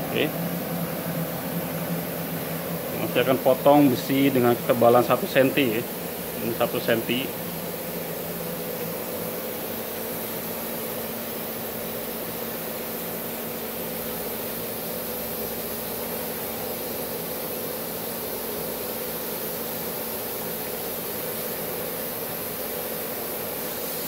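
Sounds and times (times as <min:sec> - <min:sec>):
plasma cutter hissing: 0:00.0 - 0:24.0.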